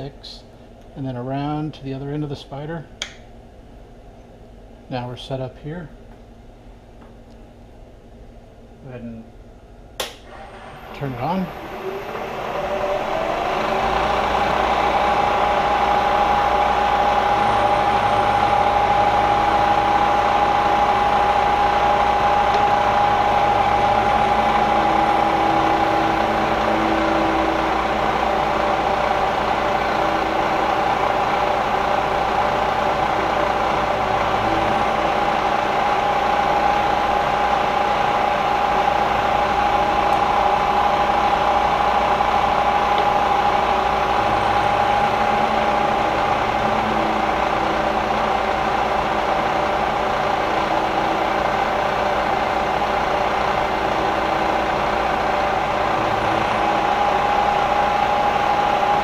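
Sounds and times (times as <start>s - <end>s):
milling machine spindle whine: 10.3s - 59.0s.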